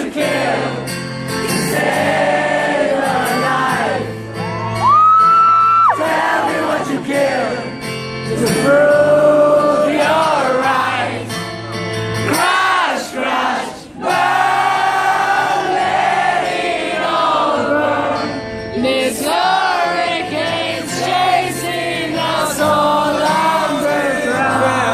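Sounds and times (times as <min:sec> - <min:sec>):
audience singing along: 0:00.0 - 0:04.6, 0:05.9 - 0:24.9.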